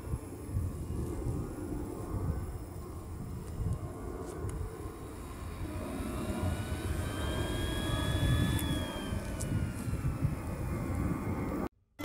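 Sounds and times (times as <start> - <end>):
low rush of exhaust: 0.0 - 11.7
model jet turbine whine: 0.0 - 11.7.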